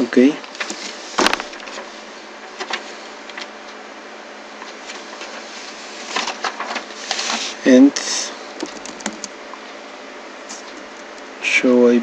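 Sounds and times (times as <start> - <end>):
microphone hiss: 0.0 - 3.8, 4.4 - 12.0.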